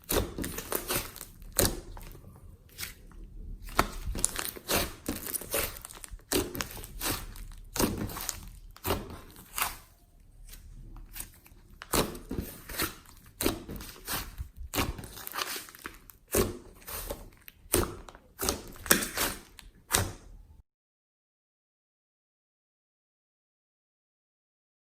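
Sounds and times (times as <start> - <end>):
hands squishing slime: 0.0 - 20.5.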